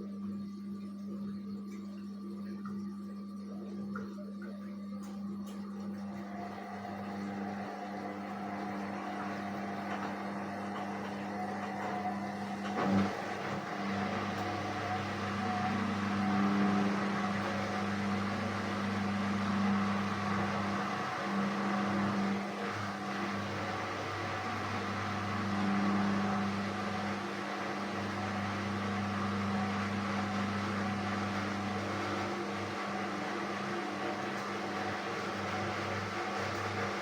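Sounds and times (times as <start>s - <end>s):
washing machine hum: 0.0s - 37.0s.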